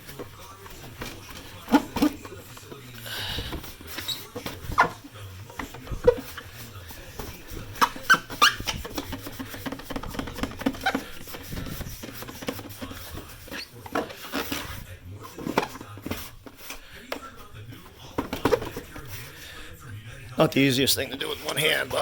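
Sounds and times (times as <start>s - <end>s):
hand rubbing polish on plastic: 0.0s - 19.7s.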